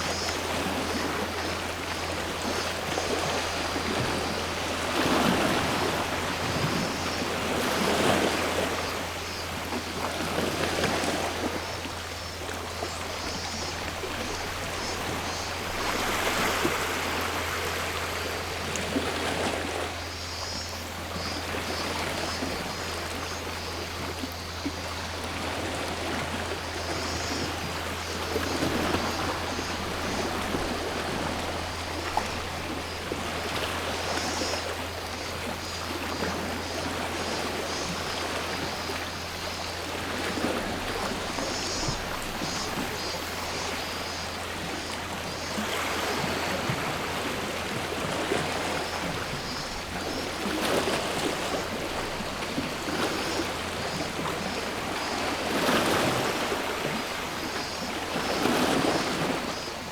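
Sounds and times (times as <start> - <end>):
cicadas pulsing calls: 0.0 - 59.9.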